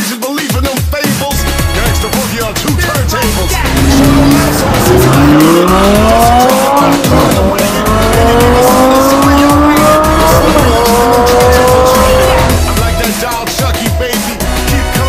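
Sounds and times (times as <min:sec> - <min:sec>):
hip hop music: 0:00.0 - 0:15.0
sports car engine accelerating: 0:01.3 - 0:13.4.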